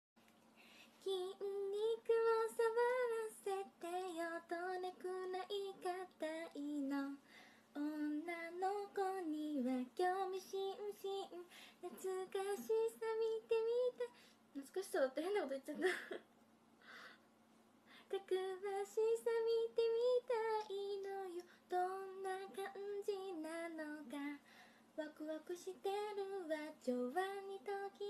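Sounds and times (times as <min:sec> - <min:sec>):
woman singing: 0:01.0 - 0:07.2, 0:07.8 - 0:16.2, 0:18.1 - 0:24.4, 0:25.0 - 0:28.0.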